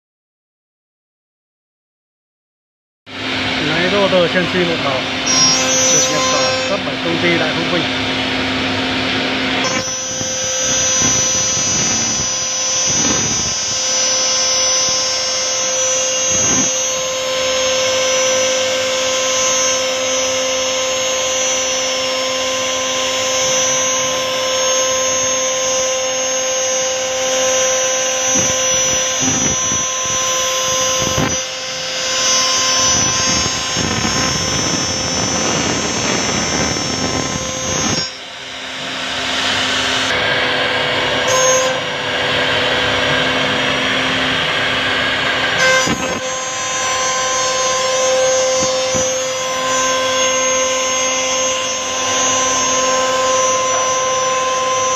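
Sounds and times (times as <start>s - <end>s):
router spindle whine: 3.1s - 54.9s
bit cutting wood: 3.4s - 54.9s.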